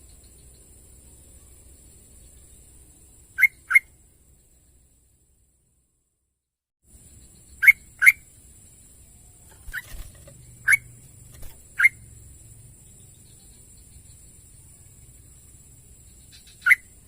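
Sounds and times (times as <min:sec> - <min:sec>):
faint background hum: 0:00.0 - 0:06.0, 0:06.9 - 0:17.0.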